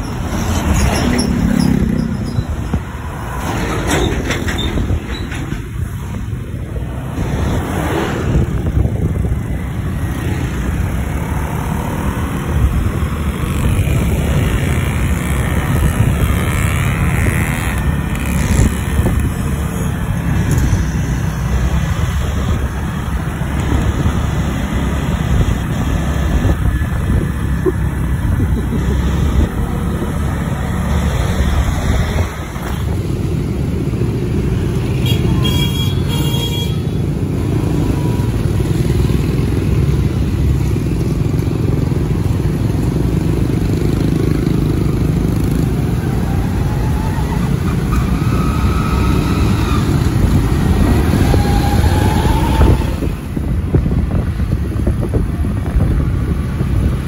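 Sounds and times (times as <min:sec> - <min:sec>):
motorcycle engines rumbling: 0:00.0 - 0:57.0
road traffic: 0:00.0 - 0:57.0.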